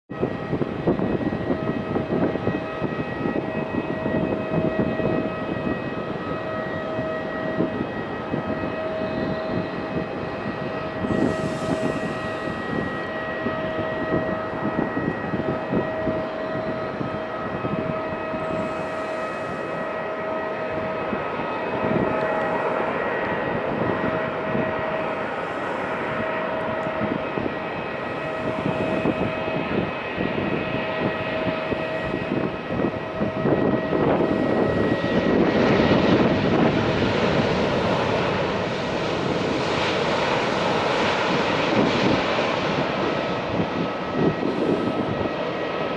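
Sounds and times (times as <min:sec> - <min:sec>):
jet engines rumbling and whining: 0:00.1 - 0:45.9.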